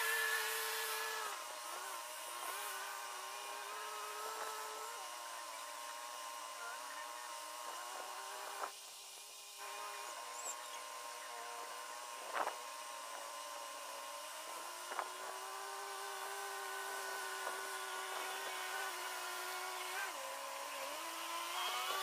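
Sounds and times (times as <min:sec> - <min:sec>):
distant tractor engine whine: 0:00.0 - 0:22.0.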